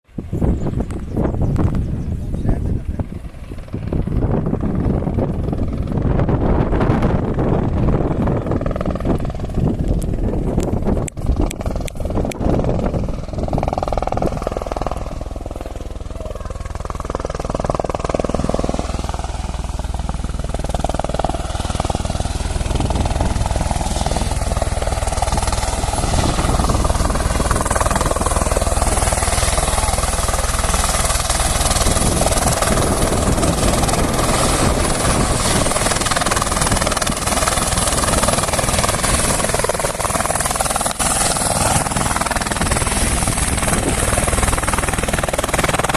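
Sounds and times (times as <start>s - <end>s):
helicopter turbine and rotor: 0.1s - 45.9s.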